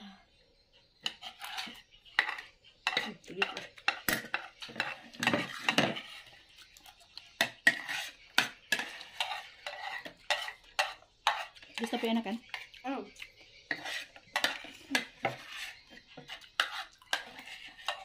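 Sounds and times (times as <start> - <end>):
metal spoons scraping plates: 1.0 - 18.0.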